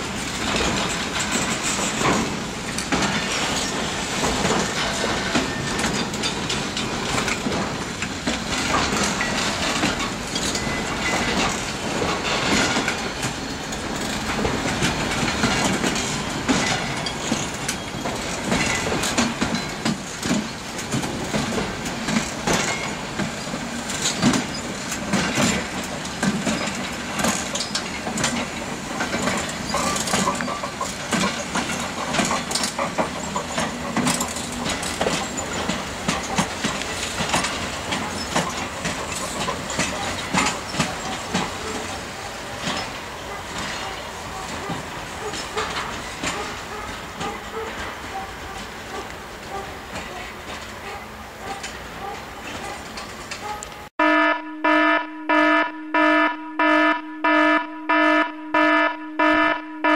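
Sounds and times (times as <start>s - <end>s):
electric locomotive passing: 0.0s - 53.9s
train wheels clattering over rail joints: 0.0s - 53.9s.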